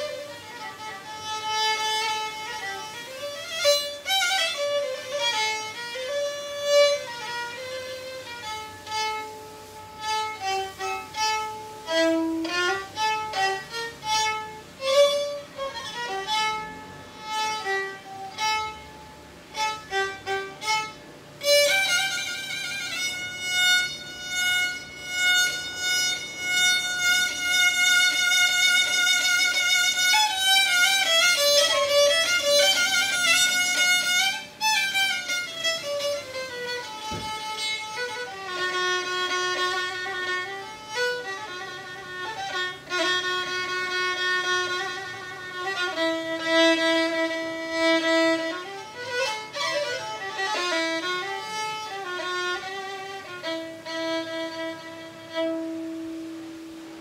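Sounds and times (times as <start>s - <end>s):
bowed fiddle folk tune: 0.0s - 57.0s.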